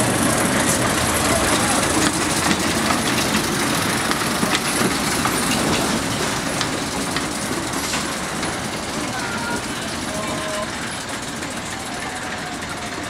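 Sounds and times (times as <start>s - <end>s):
train wheels clicking over joints: 0.0s - 13.0s.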